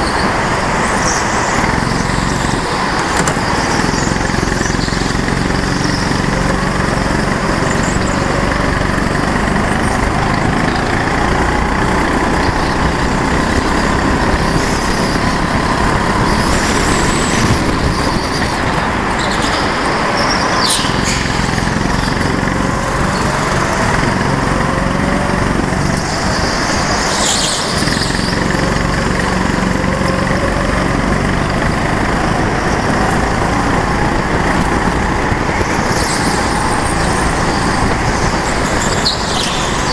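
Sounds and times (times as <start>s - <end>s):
go-kart engine revving: 0.0s - 39.9s
wind noise on microphone: 0.0s - 39.9s.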